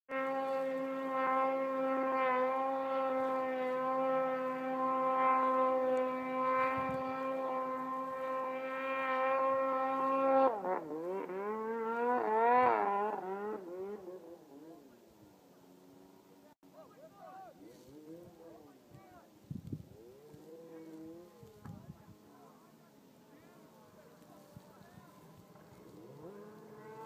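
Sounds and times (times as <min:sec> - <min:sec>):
snowmobile engine revving: 0:00.1 - 0:27.0.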